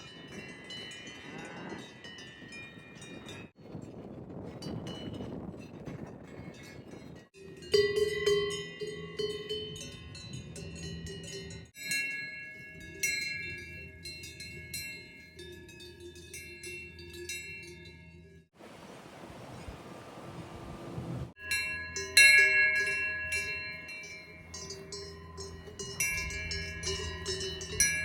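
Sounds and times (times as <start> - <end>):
cowbells clanking: 0.0 - 18.4, 21.4 - 28.0.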